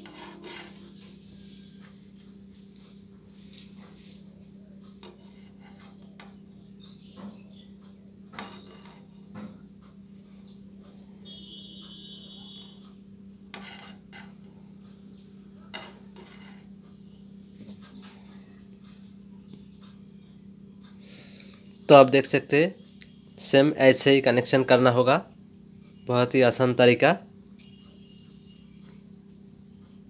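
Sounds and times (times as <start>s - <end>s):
steady low hum: 0.0s - 24.1s.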